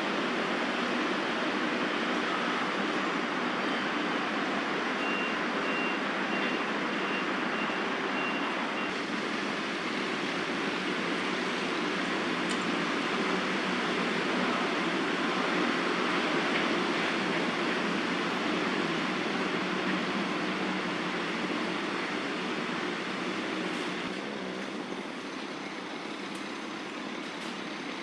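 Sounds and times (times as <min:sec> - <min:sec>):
distant city traffic hiss: 0:00.0 - 0:28.0.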